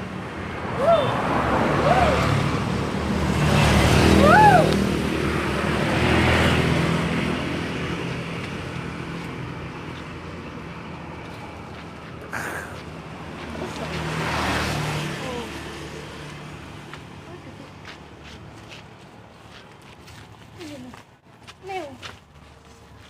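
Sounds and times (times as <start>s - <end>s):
passing road traffic: 0.0s - 23.0s.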